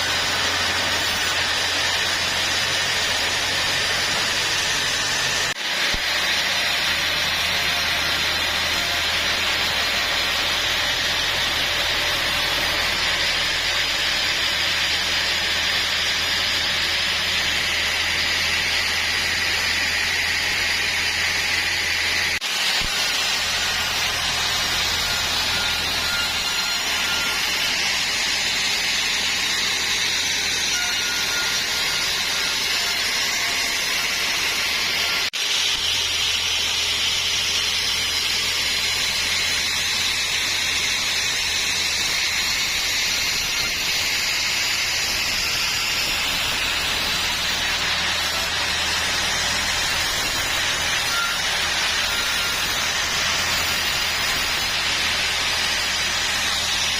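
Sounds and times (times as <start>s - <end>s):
saw cutting wood: 0.0s - 56.9s.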